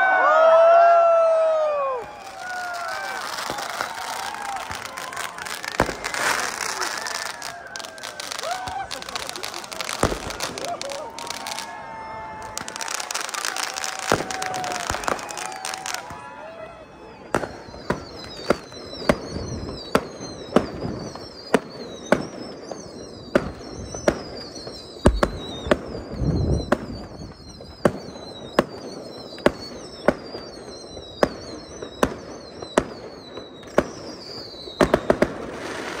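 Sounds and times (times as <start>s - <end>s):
fireworks bangs: 0.0s - 36.0s
fireworks whistles falling in pitch: 0.0s - 36.0s.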